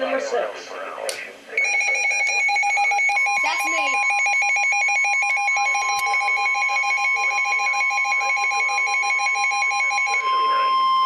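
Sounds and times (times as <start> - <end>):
two-pitch alarm beeping: 1.6 - 11.0.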